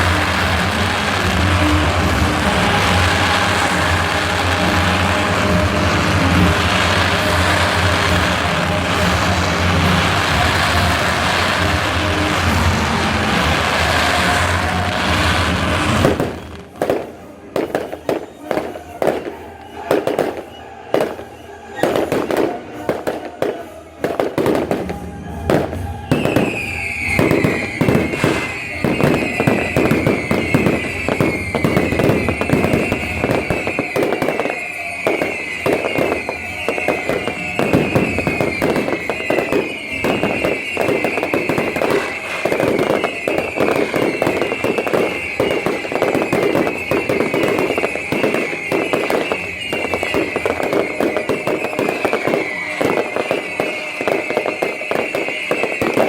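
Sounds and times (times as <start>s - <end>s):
falling firework whistle: 0.0s - 56.0s
fireworks bangs and crackles: 0.0s - 56.0s.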